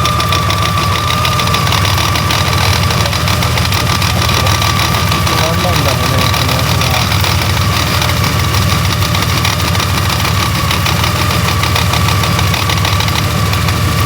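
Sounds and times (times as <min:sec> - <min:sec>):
motorcycle engine knocking: 0:00.0 - 0:14.0.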